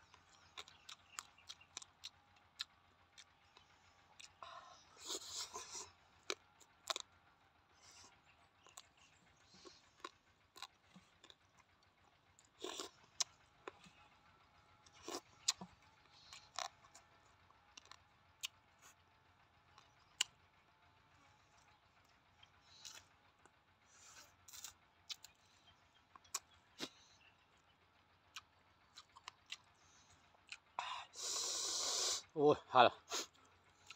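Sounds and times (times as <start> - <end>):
man chewing crunchy food: 0.0 - 7.1, 7.8 - 14.2, 14.8 - 20.4, 21.5 - 27.1, 28.2 - 32.1, 33.1 - 33.9.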